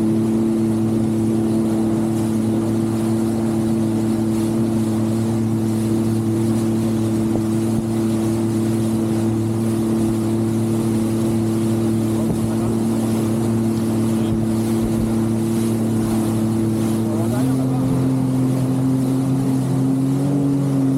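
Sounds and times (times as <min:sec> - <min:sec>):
jet ski engine running: 0:00.0 - 0:20.9
rushing wind and water: 0:00.0 - 0:20.9.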